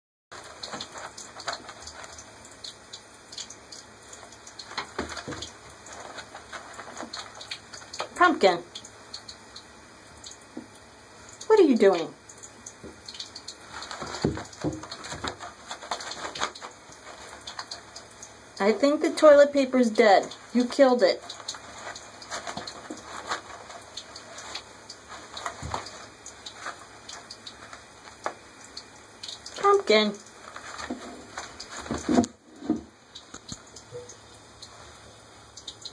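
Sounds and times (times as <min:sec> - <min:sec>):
toilet paper rustling and crinkling: 0:00.4 - 0:08.4, 0:12.8 - 0:34.1.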